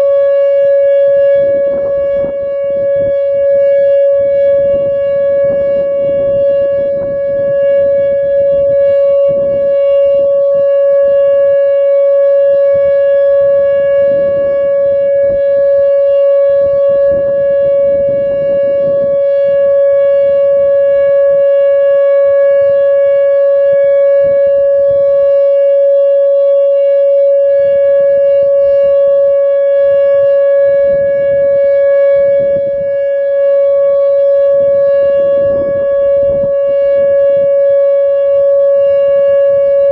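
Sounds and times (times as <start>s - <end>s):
gusty low rumble: 0.0s - 38.8s
outdoor warning siren tone: 0.0s - 39.9s.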